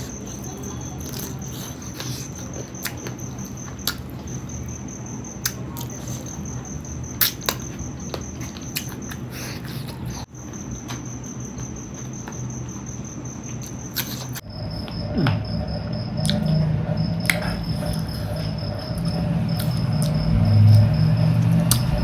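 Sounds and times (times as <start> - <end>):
steady high-pitched whine: 0.0 - 22.0.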